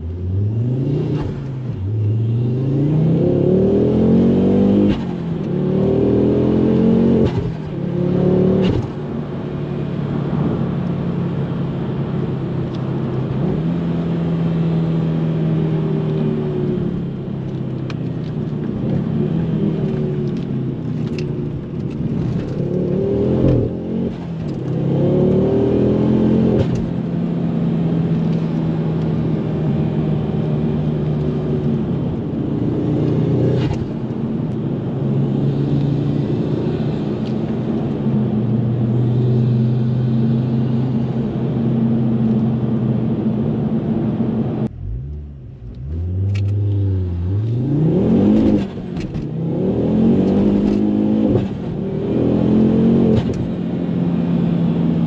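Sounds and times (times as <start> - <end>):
car engine revving through gear changes: 0.0 - 55.0.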